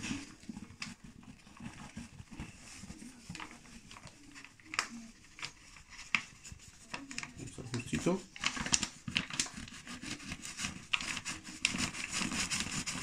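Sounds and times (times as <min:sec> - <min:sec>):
paper bag crinkling: 0:00.0 - 0:13.0.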